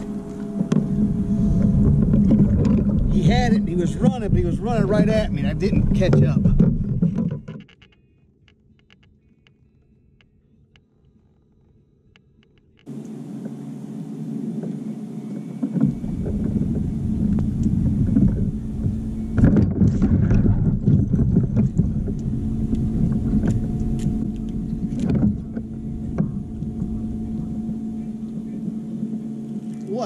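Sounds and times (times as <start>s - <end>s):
steady hum: 0.0s - 7.4s, 12.6s - 30.0s
low rumble: 0.0s - 7.5s, 12.9s - 30.0s
water and wind noise: 0.0s - 30.0s.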